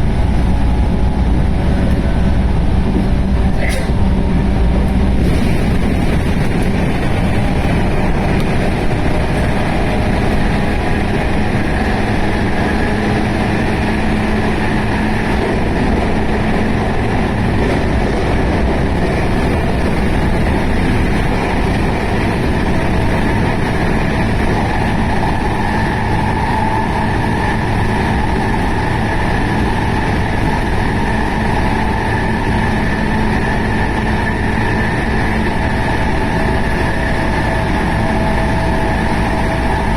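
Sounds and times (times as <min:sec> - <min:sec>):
traction motor whine: 0:00.0 - 0:39.9
train wheels rumbling on rail: 0:00.0 - 0:39.9.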